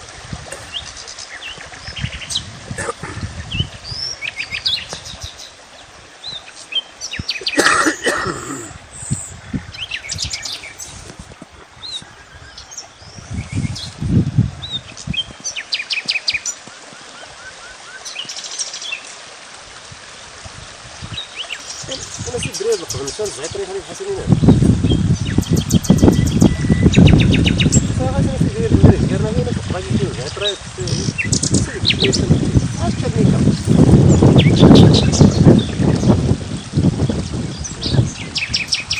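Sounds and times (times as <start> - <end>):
background hiss: 0.0 - 38.9
small birds chirping: 0.6 - 19.1, 21.0 - 28.0, 29.9 - 38.9.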